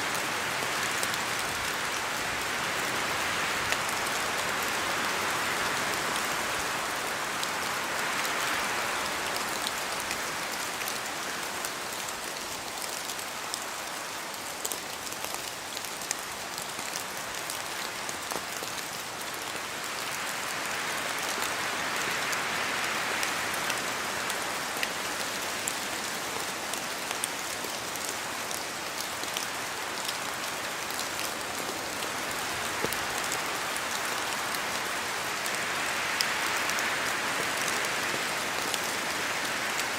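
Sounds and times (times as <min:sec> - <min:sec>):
wind through trees: 0:00.0 - 0:39.9
rain drops ticking: 0:00.1 - 0:39.9.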